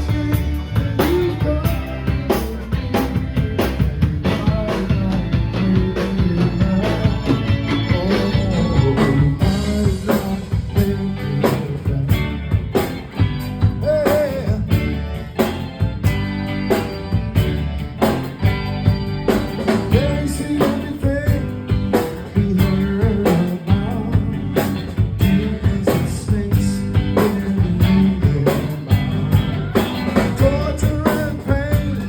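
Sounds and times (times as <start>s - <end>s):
drum kit beat: 0.0s - 32.0s
electric guitar: 0.0s - 32.0s
rock and roll band playing: 0.0s - 32.0s.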